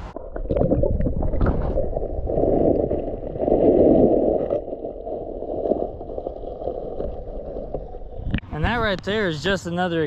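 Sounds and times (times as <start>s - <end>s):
muffled underwater water sloshing: 0.0s - 8.5s.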